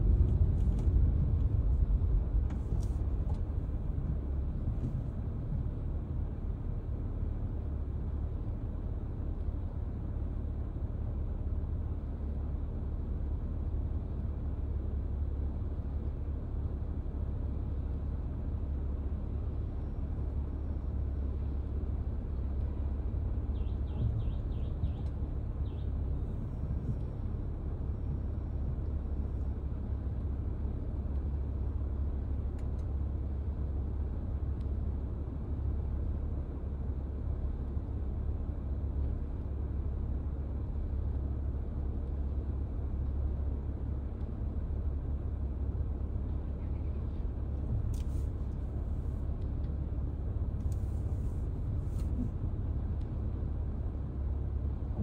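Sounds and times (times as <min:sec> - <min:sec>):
car engine rumble inside cabin: 0:00.0 - 0:55.0.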